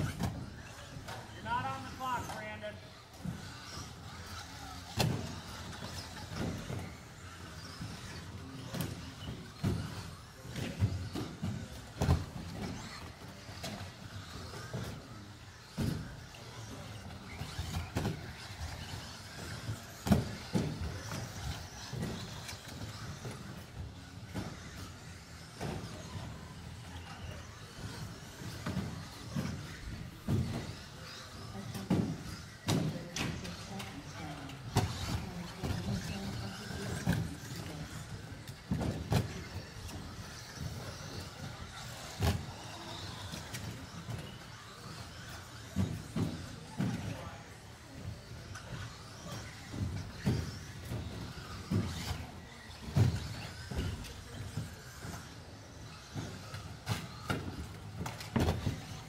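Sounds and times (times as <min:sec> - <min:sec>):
small motors whining: 0:00.0 - 0:59.0.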